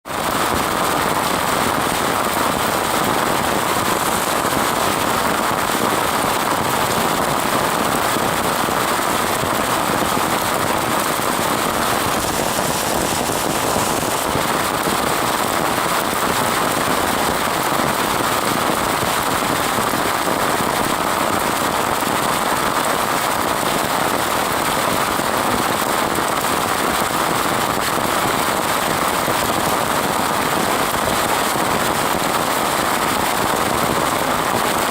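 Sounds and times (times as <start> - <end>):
rain falling steadily: 0.1 - 34.9.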